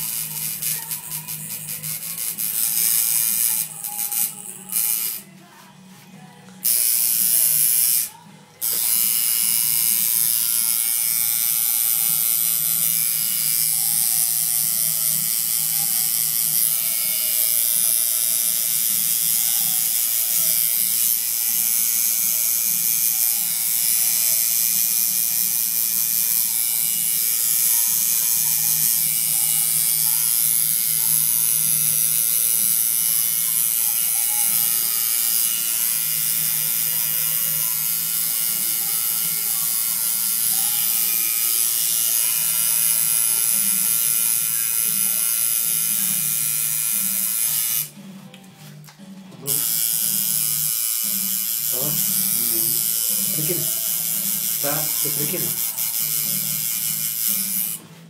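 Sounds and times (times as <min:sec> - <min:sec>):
tattoo machine buzzing: 0:00.0 - 0:05.3, 0:06.6 - 0:48.0, 0:49.4 - 0:57.8.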